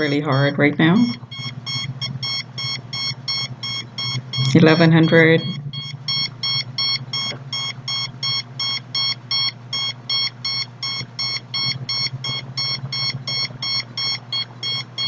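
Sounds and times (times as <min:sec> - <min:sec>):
short high-pitched alarm beeps: 0:00.0 - 0:15.0
steady low hum: 0:00.0 - 0:15.0.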